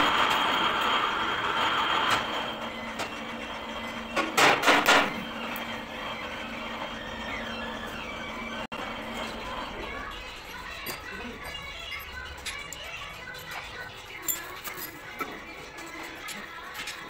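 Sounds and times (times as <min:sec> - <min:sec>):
workshop din: 0:00.0 - 0:17.0.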